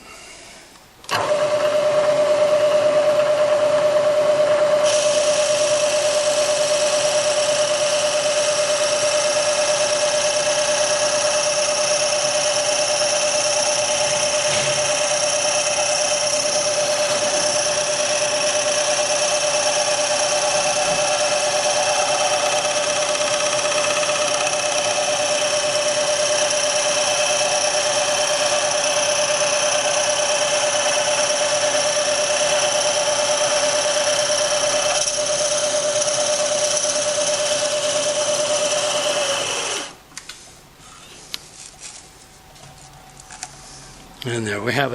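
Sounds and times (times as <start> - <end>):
boring machine whining: 1.0 - 40.1.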